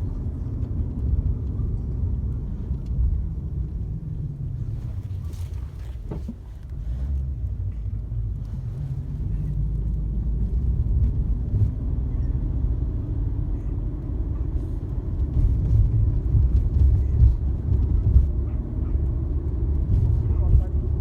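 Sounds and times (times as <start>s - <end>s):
car cabin road noise: 0.0s - 21.0s.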